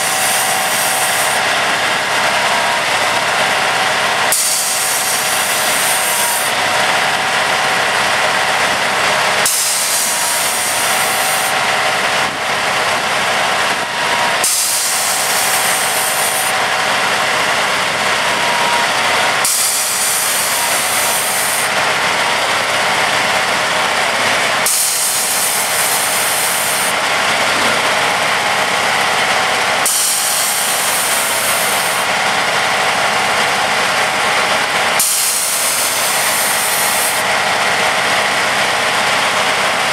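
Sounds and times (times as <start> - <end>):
diesel engine and hydraulics running: 0.0 - 39.9.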